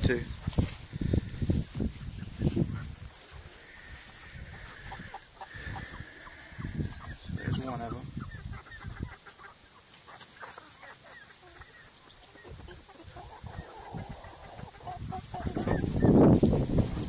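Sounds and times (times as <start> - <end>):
chickens clucking: 0.0 - 17.0
steady high-pitched hiss: 0.0 - 17.0.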